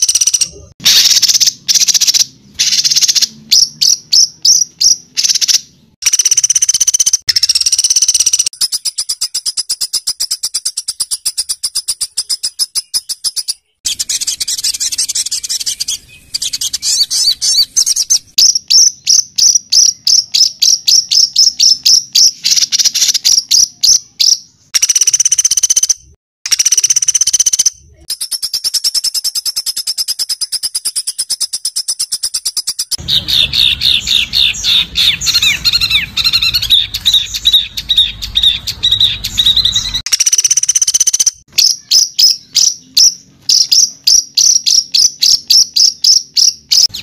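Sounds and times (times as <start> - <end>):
songbird harsh rapid trills: 0.0 - 47.0.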